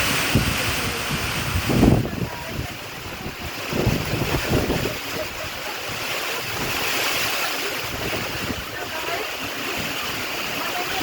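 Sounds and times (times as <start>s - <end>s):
heavy rain hiss: 0.0s - 11.0s
wind buffeting microphone: 0.0s - 11.0s.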